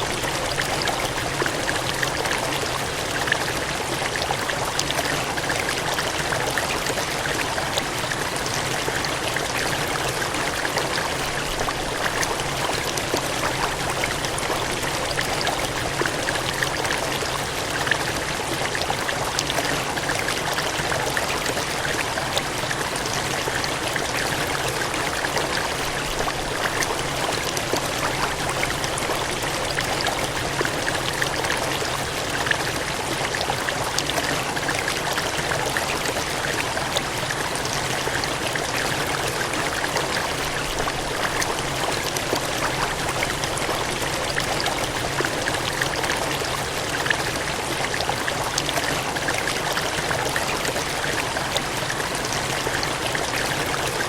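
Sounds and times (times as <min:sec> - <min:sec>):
water gushing and splashing: 0:00.0 - 0:54.0.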